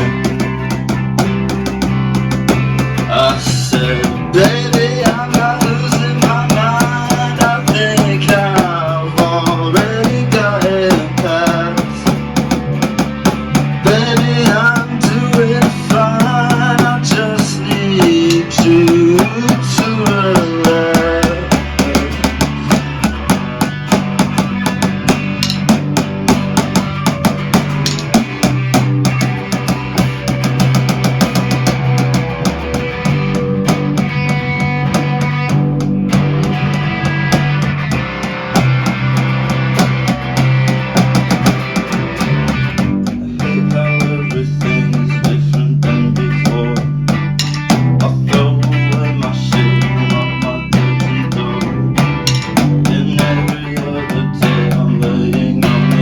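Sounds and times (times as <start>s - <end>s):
bass guitar: 0.0s - 56.0s
drum kit beat: 0.0s - 56.0s
electric guitar: 0.0s - 56.0s.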